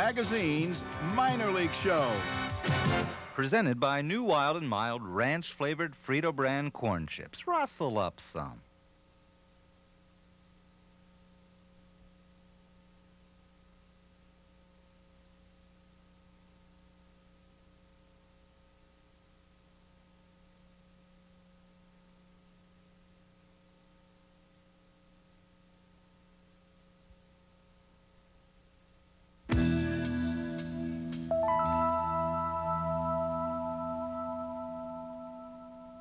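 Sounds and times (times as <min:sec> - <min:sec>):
faint electrical hum with hiss: 0:00.0 - 0:36.0.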